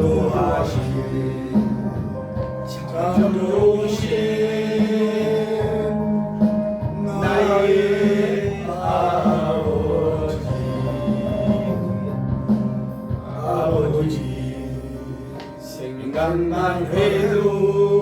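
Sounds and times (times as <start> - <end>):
held accompaniment chords: 0.0 - 18.0
voices singing: 0.0 - 18.0.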